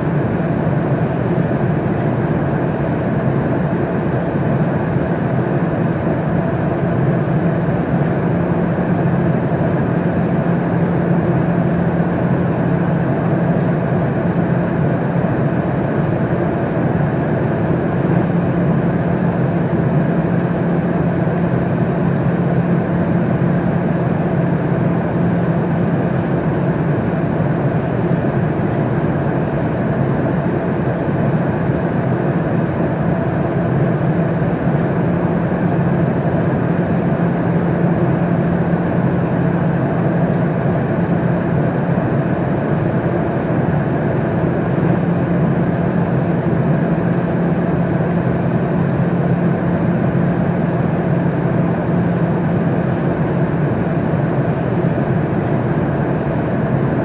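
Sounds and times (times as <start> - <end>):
constant low hum: 0.0 - 57.0
engine and airflow drone: 0.0 - 57.0.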